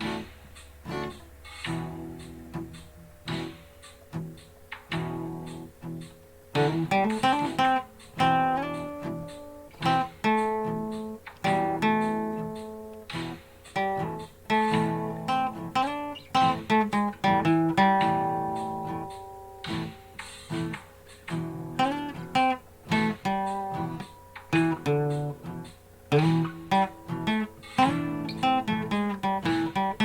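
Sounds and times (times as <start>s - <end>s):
acoustic guitar blues riff: 0.0s - 30.0s.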